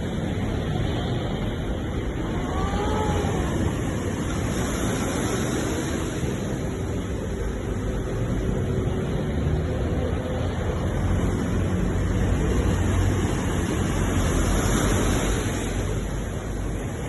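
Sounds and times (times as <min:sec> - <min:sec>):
ocean waves: 0:00.0 - 0:17.0.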